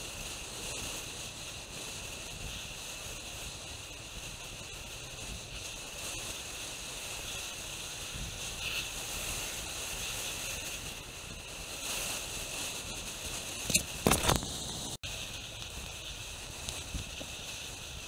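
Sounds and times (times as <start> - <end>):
bicycle rolling: 0.0 - 18.0
wind hiss: 0.0 - 18.0.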